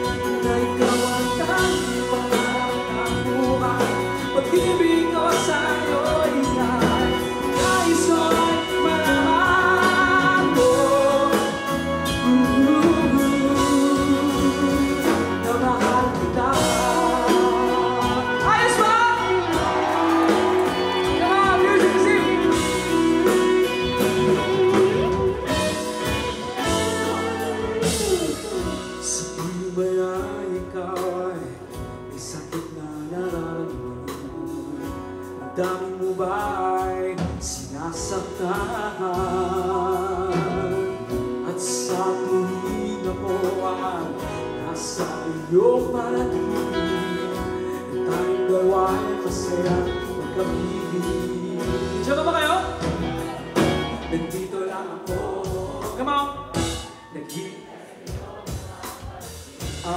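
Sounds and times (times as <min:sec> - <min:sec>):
live band with guitars and drums: 0:00.0 - 0:59.9
person singing: 0:00.0 - 0:59.9.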